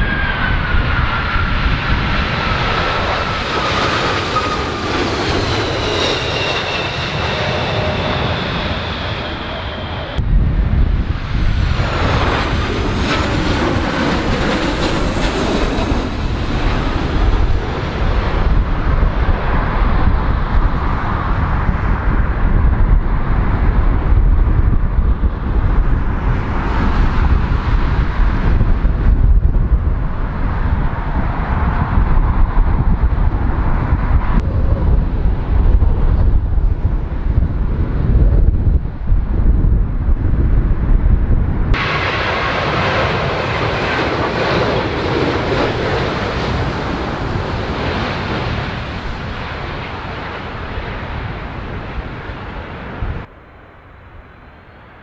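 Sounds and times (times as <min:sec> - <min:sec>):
faint jet noise: 0:00.0 - 0:55.0
gusty wind on microphone: 0:00.0 - 0:55.0
jet engines passing overhead: 0:00.0 - 0:55.0.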